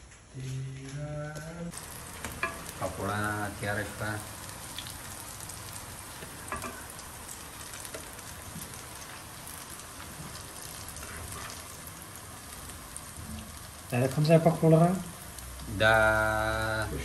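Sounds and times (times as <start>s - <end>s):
oil sizzling while deep-frying: 1.7s - 17.0s.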